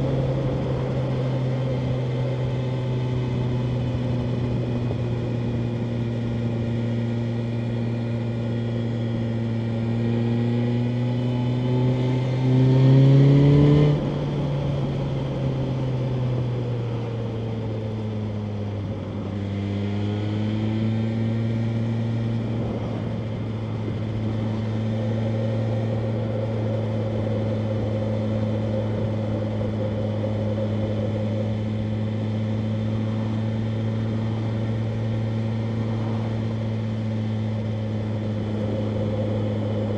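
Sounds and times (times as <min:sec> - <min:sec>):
motorcycle engine revving: 0:00.0 - 0:16.2, 0:17.2 - 0:39.9.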